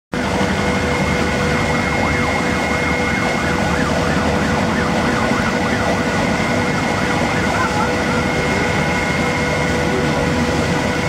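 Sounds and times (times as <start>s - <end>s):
ferry engines and water rush: 0.1s - 11.0s
high whines: 0.2s - 11.0s
wavering tone: 0.7s - 11.0s.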